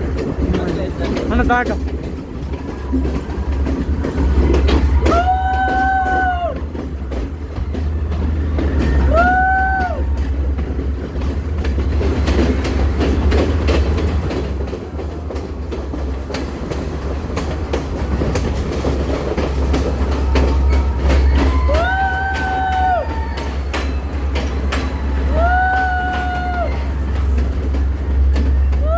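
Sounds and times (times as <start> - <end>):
train wheels clattering on rails: 0.0 - 28.9.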